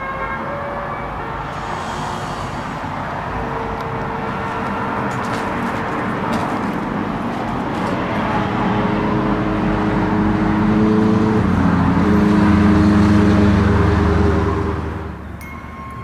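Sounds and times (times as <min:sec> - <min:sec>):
vehicle engine passing by: 0:01.0 - 0:15.3.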